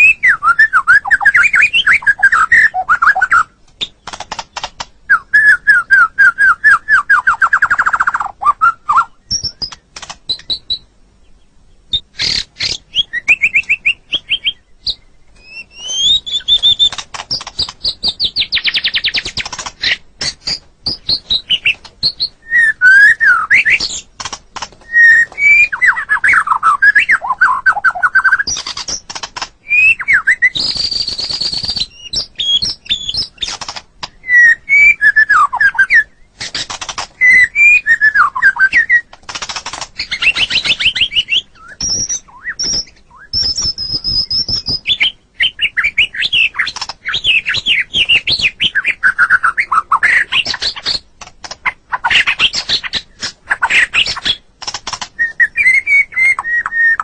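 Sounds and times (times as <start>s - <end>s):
songbird singing varied song: 0.0s - 57.0s.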